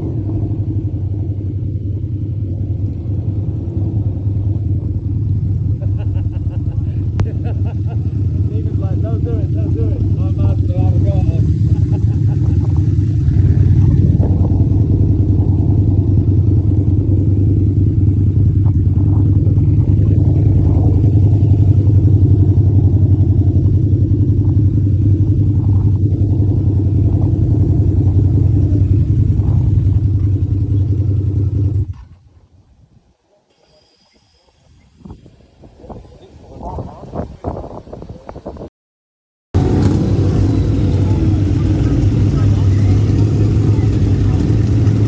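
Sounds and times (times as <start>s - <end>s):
motorcycle engine running: 0.0s - 32.3s, 39.6s - 45.0s.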